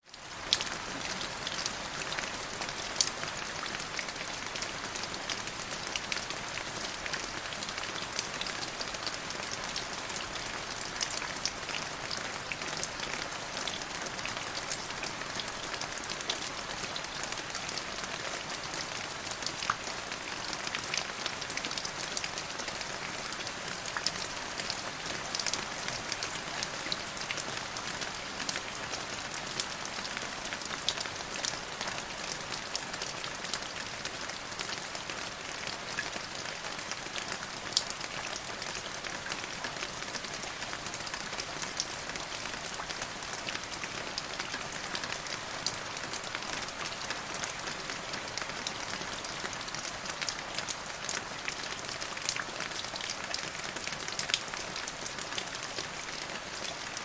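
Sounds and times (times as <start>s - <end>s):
raindrops pattering: 0.0s - 57.0s.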